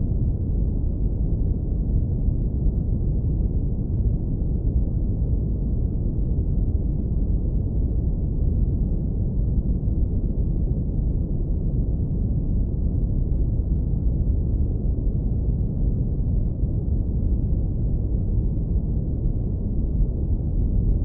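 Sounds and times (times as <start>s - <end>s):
deep brown noise rumble: 0.0s - 21.0s.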